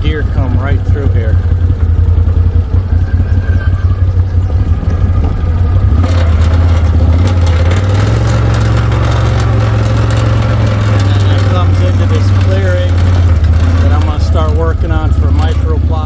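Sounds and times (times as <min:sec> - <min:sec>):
engine running: 0:00.0 - 0:16.0
rattling noise: 0:00.0 - 0:16.0.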